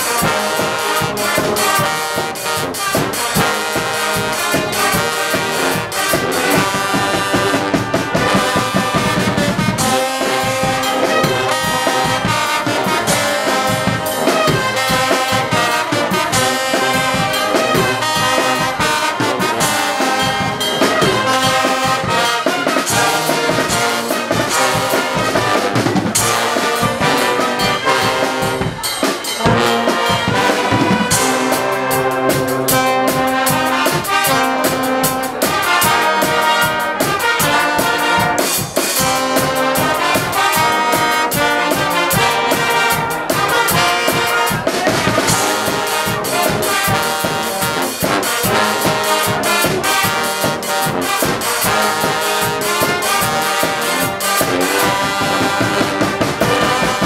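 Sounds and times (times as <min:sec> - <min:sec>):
brass band playing loudly: 0:00.0 - 0:57.0
drums and cymbals beat: 0:00.0 - 0:57.0.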